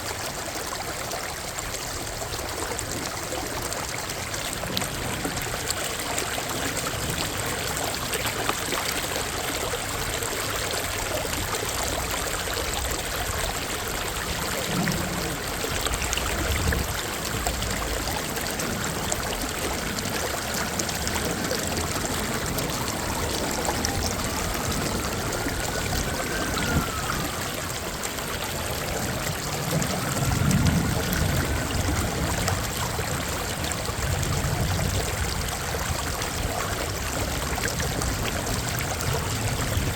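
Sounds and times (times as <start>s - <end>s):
creek and waterfall rushing: 0.0s - 39.9s.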